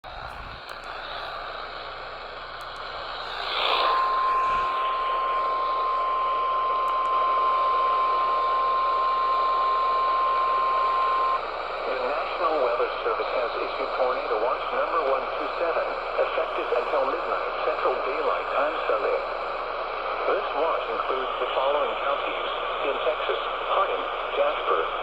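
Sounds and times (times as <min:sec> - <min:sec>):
radio hiss and static: 0:00.1 - 0:25.0.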